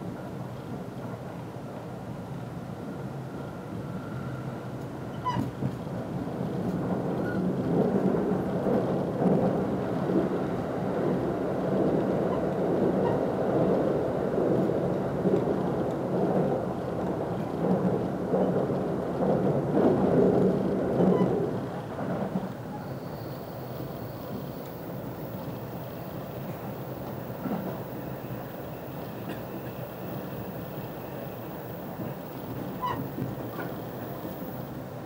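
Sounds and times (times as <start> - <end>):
passing train: 0.0 - 35.0
train wheels rumbling on rails: 0.0 - 35.0.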